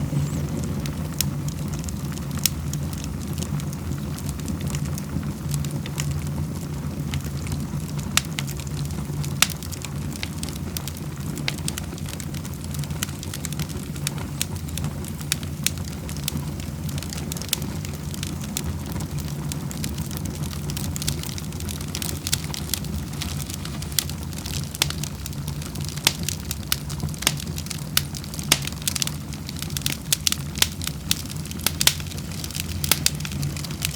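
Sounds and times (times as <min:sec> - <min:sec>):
fire crackling and popping: 0:00.0 - 0:33.9
fire low rumble: 0:00.0 - 0:33.9.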